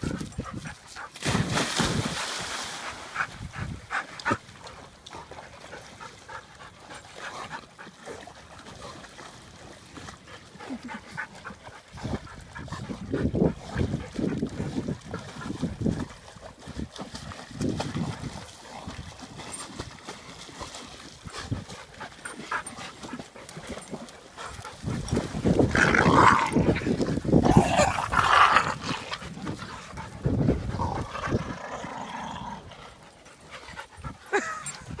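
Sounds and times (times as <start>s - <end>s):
dogs panting: 0.0s - 1.4s, 2.7s - 16.6s, 20.4s - 35.0s.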